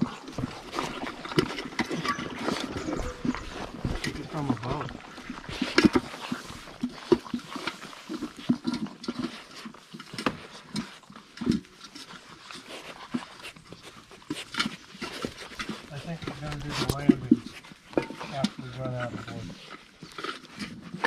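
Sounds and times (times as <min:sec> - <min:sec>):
puppies crunching kibble: 0:00.0 - 0:21.0.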